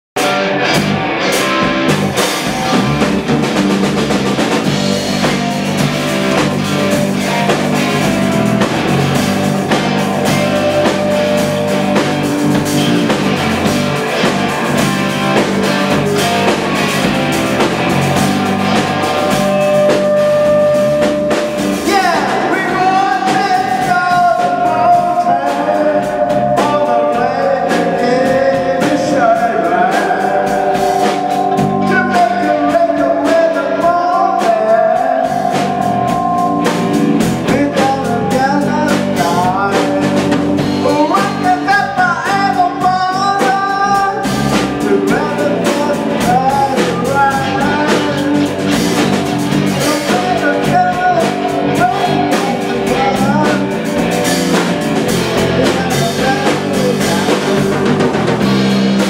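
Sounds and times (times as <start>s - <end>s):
lead melody line: 0.2s - 59.0s
live rock band playing: 0.2s - 59.0s
person singing: 4.7s - 59.0s.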